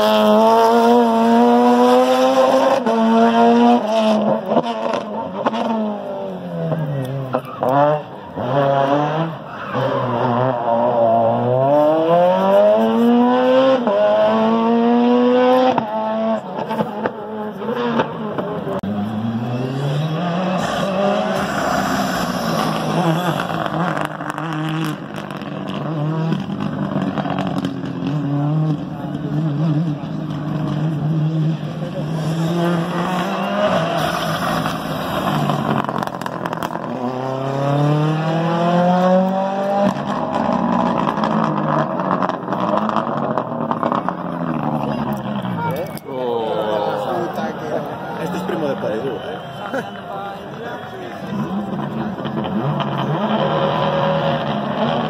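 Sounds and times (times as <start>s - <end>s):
rally car engine revving: 0.0s - 46.0s, 51.1s - 55.0s.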